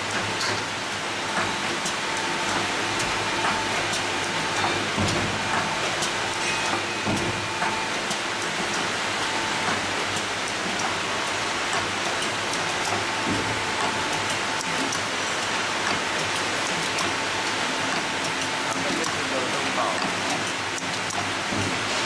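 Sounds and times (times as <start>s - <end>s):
machine hissing and clicking: 0.0s - 22.0s.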